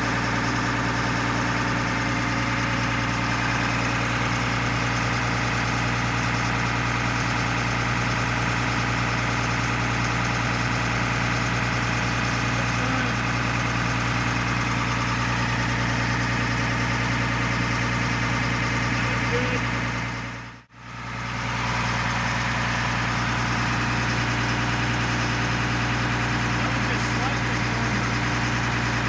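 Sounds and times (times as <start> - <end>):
truck diesel engine idling: 0.0 - 29.0.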